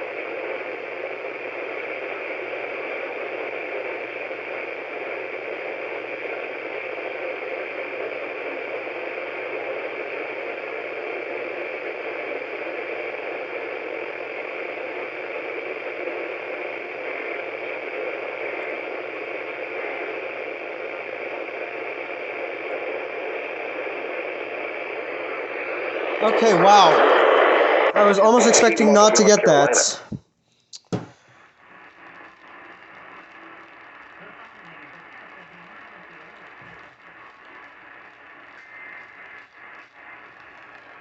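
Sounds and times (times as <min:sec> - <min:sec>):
radio static hiss: 0:00.0 - 0:30.2, 0:30.8 - 0:41.0.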